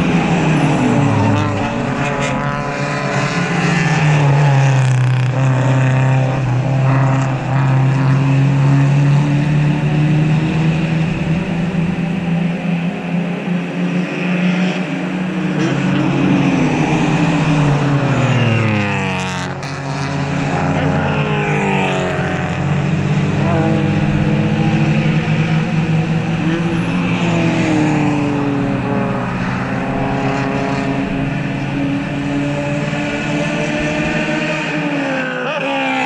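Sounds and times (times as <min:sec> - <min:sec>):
race car engines passing: 0:00.0 - 0:36.0.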